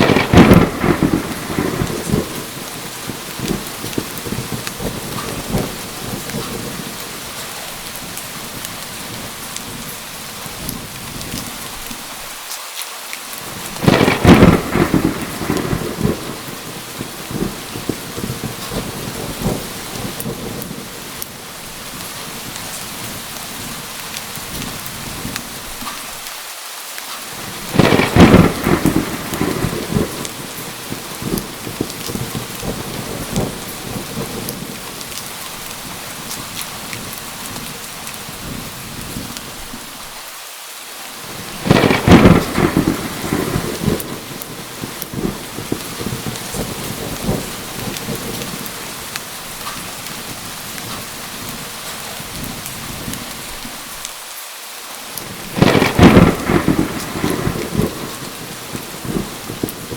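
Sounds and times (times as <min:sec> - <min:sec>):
thunderclaps rumbling: 0:00.0 - 0:11.9, 0:13.4 - 0:25.9, 0:27.4 - 0:39.9, 0:41.2 - 0:53.8, 0:55.2 - 0:59.9
heavy rain: 0:00.0 - 0:59.9.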